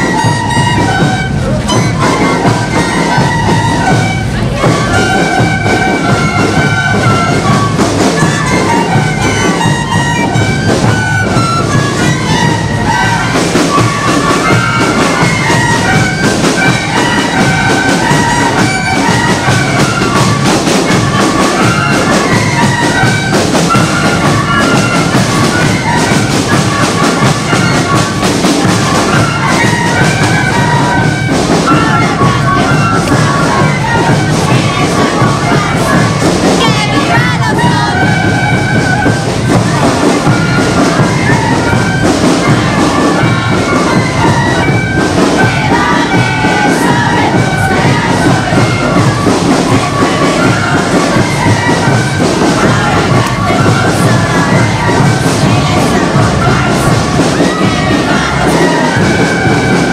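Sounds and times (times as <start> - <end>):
drums beating a dance rhythm: 0.0 - 59.9
flutes playing a melody: 0.0 - 59.9.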